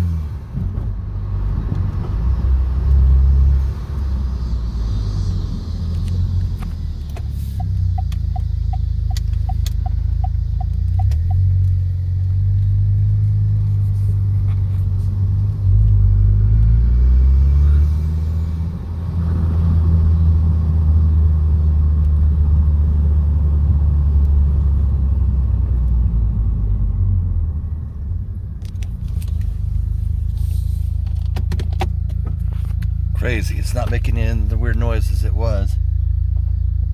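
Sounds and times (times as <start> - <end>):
car engine droning while driving: 0.0 - 36.9.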